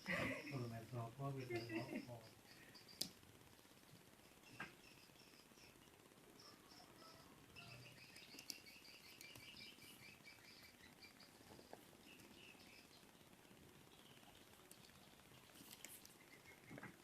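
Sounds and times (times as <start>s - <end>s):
bird chirping: 0.3s - 17.0s.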